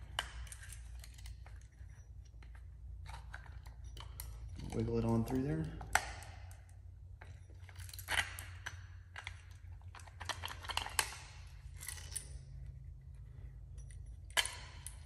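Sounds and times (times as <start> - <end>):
metal parts clicking and scraping: 0.0 - 15.0
steady low hum: 0.0 - 15.0.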